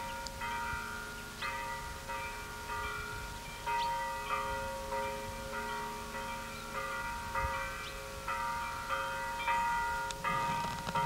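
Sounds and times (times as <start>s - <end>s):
church bell ringing: 0.0s - 11.0s.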